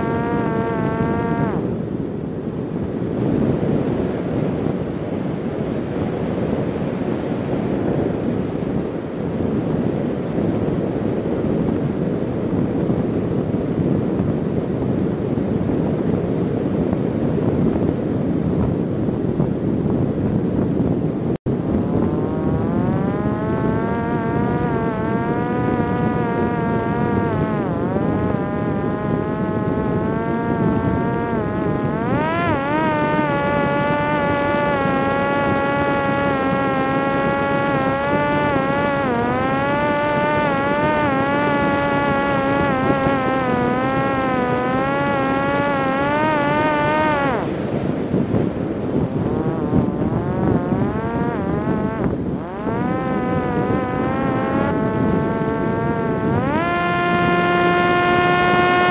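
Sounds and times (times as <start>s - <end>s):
electric motor and propeller whine: 0.0s - 58.9s
wind buffeting microphone: 0.0s - 58.9s.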